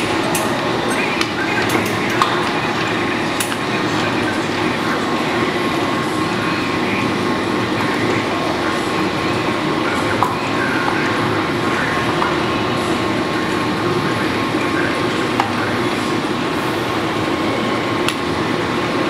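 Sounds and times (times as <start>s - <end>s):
faint steady whine: 0.0s - 19.0s
lathe mechanical drone: 0.0s - 19.0s.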